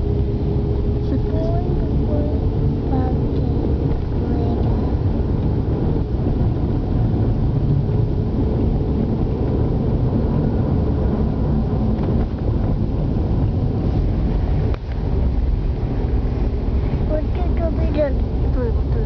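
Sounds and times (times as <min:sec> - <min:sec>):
car driving along: 0:00.0 - 0:19.0.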